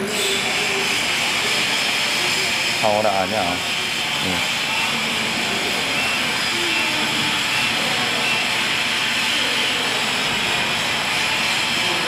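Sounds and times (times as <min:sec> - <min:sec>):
laser cutting machine hissing: 0:00.0 - 0:12.0.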